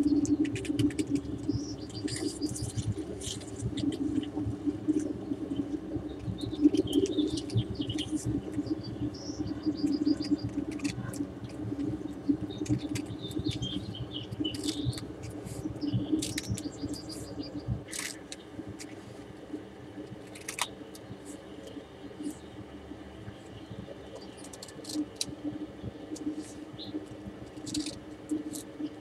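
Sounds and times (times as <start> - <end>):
birds chirping: 0.0 - 19.1, 20.2 - 29.0
steady low hum: 0.0 - 29.0.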